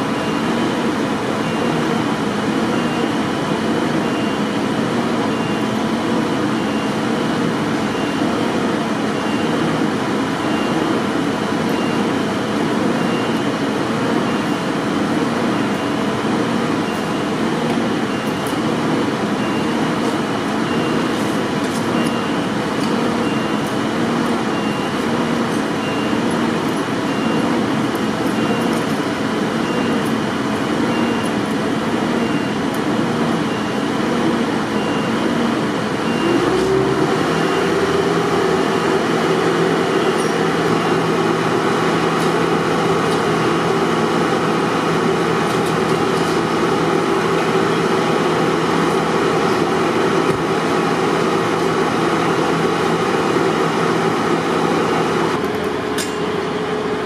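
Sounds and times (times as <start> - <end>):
heavy vehicle engine running: 0.0 - 57.0
street traffic noise: 0.0 - 57.0.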